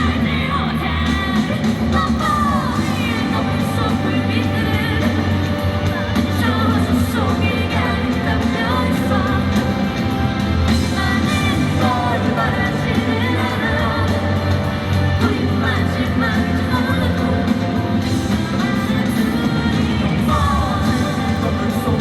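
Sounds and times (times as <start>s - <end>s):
live pop-rock band playing: 0.0s - 22.0s
person singing: 0.0s - 22.0s.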